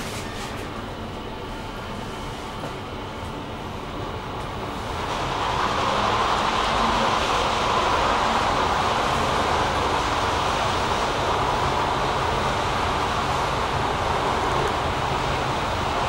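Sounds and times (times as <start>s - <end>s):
elevator cabin rumbling hiss: 0.0s - 16.0s.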